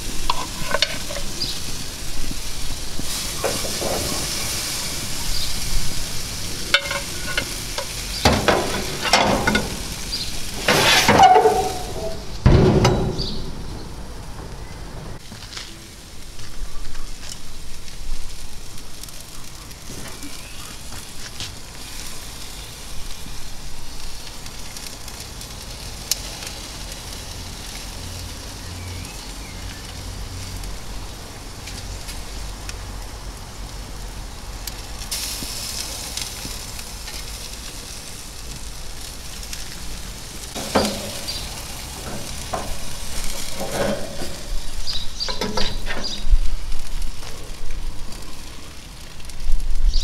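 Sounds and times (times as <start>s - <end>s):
meat sizzling on a grill: 0.0s - 13.8s, 15.2s - 50.0s.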